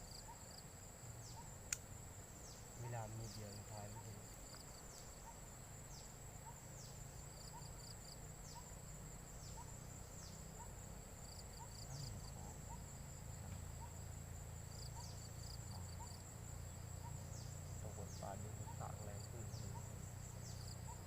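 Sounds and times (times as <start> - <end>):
insect high-pitched trill: 0.0 - 21.0.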